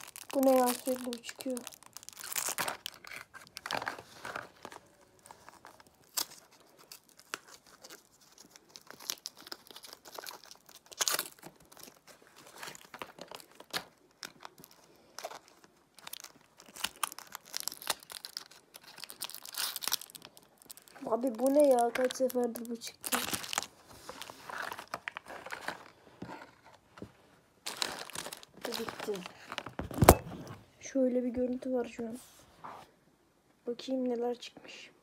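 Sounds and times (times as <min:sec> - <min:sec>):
plastic wrappers crinkling: 0:00.0 - 0:30.5.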